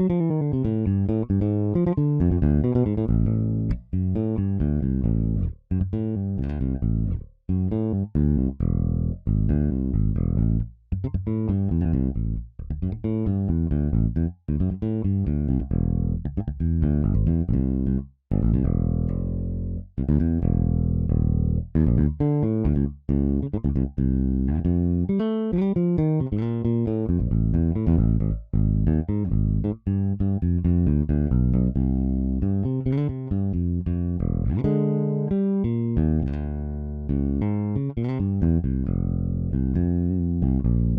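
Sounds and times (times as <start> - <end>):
funk electric bass line: 0.0 - 40.9.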